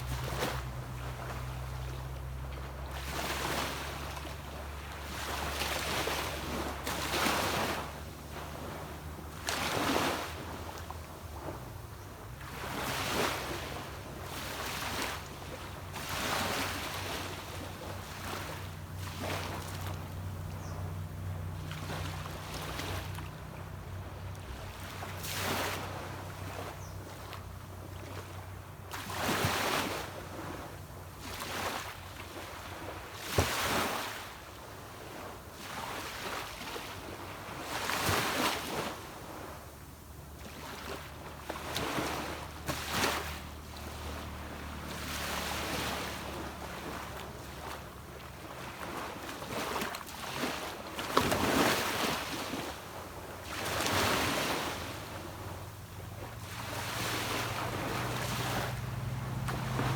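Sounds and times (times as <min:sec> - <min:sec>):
distant boat engine hum: 0:00.0 - 0:59.9
small waves breaking on beach: 0:00.0 - 0:59.9.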